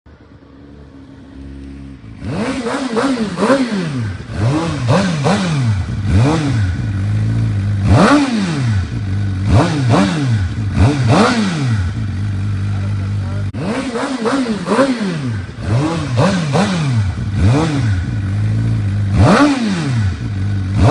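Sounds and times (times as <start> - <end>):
motorcycle engine idling and revving: 0.1 - 20.9.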